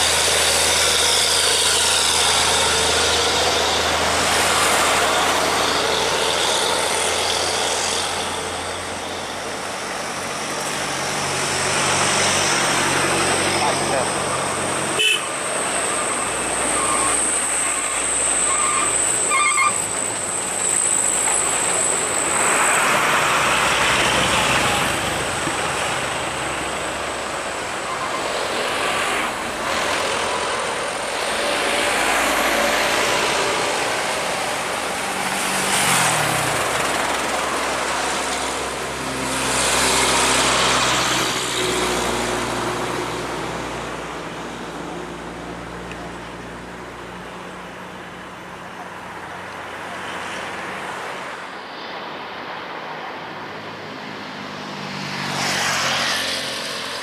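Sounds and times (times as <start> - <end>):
diesel trucks passing: 0.0 - 57.0.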